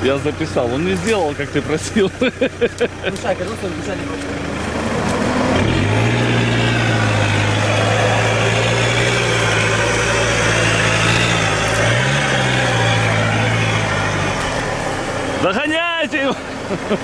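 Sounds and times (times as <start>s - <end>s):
buggy engine at steady revs: 0.0s - 17.0s.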